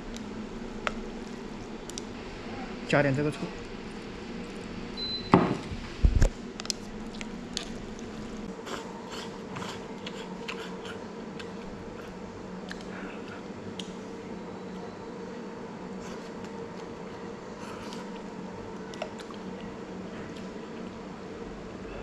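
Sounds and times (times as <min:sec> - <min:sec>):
background hum: 0:00.0 - 0:22.0.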